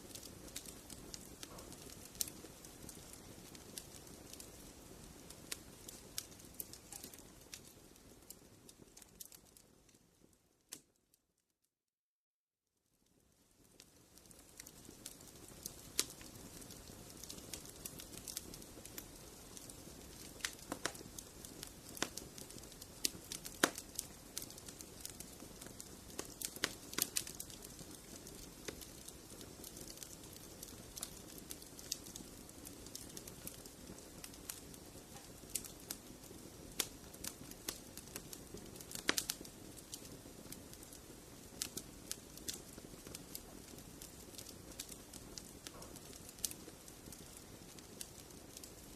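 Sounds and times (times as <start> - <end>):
hiss of flames: 0.0 - 9.4, 13.6 - 48.9
wood fire crackling: 0.0 - 11.0, 12.8 - 48.9.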